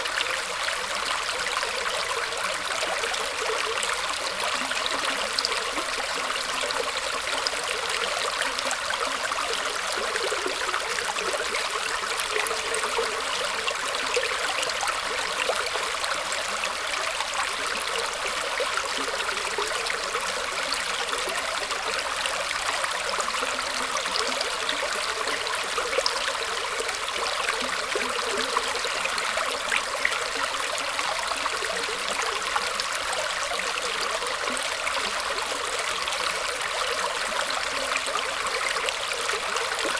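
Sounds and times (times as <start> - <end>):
stream trickling over roots: 0.0 - 39.9.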